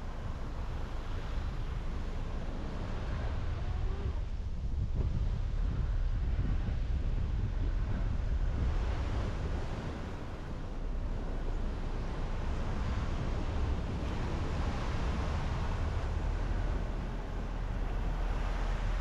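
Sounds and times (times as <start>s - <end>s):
car tyres and engine rumble: 0.0s - 19.0s.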